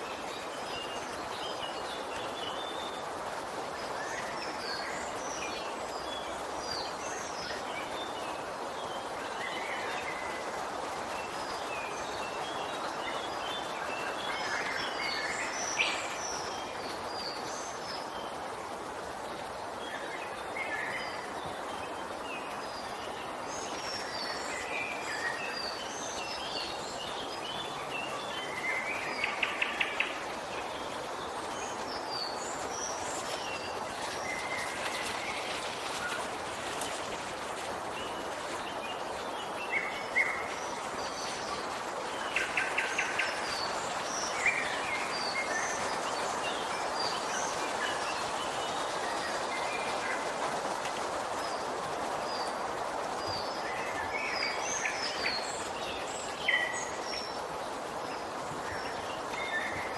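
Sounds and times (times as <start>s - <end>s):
steady background noise: 0.0s - 59.9s
woodland birds chirping: 0.0s - 59.9s.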